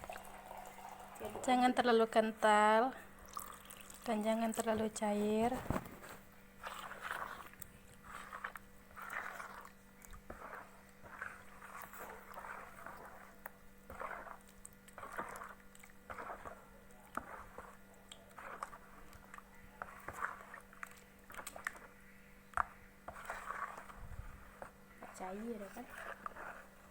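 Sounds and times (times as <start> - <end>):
spoon stirring wet batter: 0.0 - 26.9.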